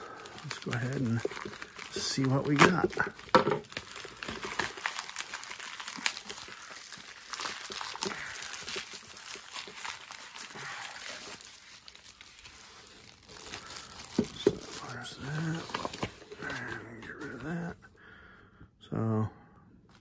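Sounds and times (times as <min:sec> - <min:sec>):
plastic mailer crinkling: 0:00.0 - 0:17.7.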